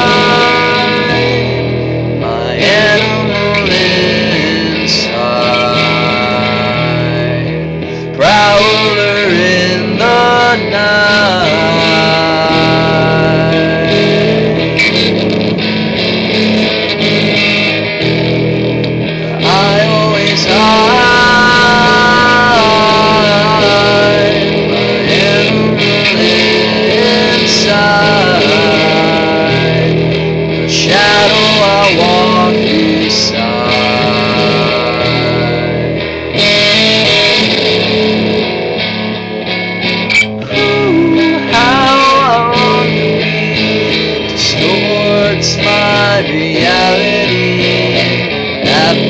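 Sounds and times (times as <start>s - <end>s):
guitar-led instrumental music: 0.0s - 49.0s.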